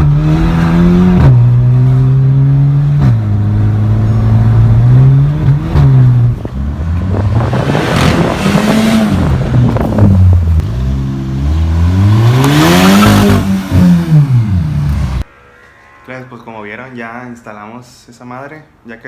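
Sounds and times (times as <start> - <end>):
car engine accelerating: 0.0 - 15.3.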